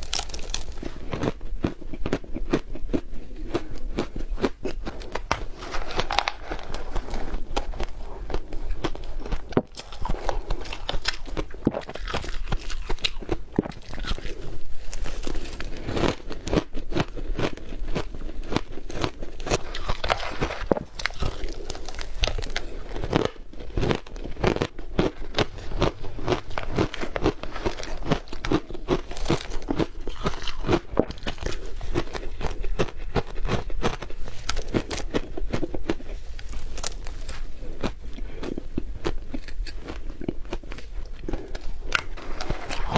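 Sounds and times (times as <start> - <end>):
chewing crunchy ice: 0.0 - 42.9.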